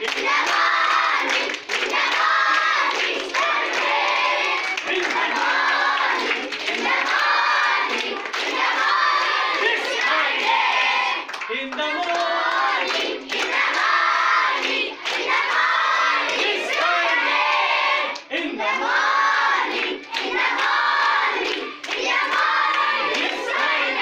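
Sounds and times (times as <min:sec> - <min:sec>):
boys singing in unison: 0:00.0 - 0:11.3, 0:12.1 - 0:24.0
hand clapping: 0:00.0 - 0:17.2, 0:19.7 - 0:23.8.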